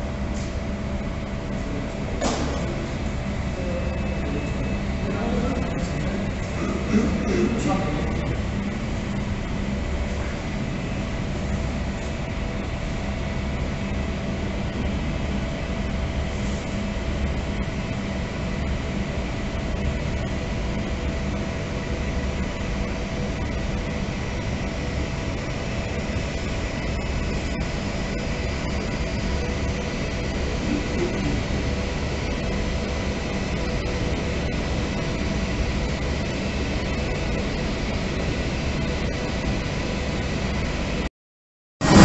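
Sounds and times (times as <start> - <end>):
constant humming tones: 0.0 - 41.0
low mechanical rumble: 0.0 - 41.1.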